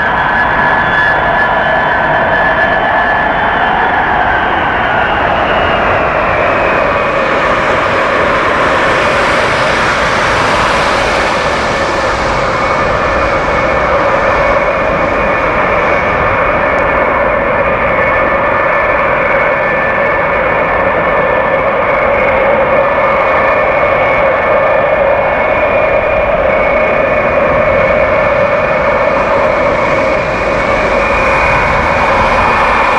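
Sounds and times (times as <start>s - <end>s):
jet engine roar: 0.0s - 32.9s
jet engine whine: 0.0s - 32.9s.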